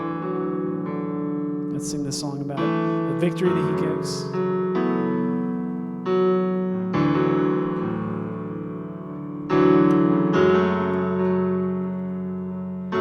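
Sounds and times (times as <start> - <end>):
piano sustained chords: 0.0 - 13.0.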